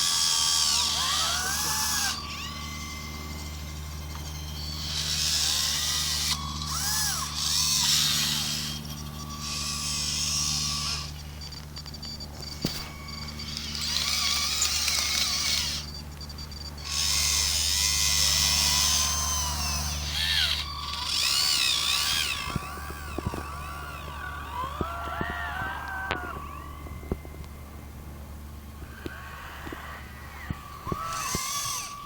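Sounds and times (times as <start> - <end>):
small electric motors whining: 0.0 - 32.0
steady low hum: 0.0 - 32.0.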